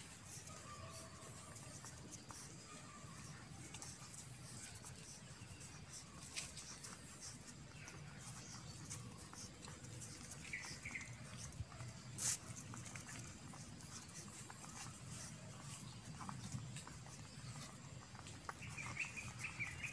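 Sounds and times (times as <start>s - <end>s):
puppies suckling wet clicking: 0.0s - 19.9s.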